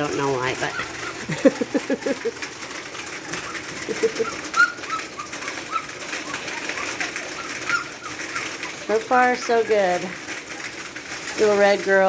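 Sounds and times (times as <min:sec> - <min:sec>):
puppies whimpering: 0:00.0 - 0:12.0.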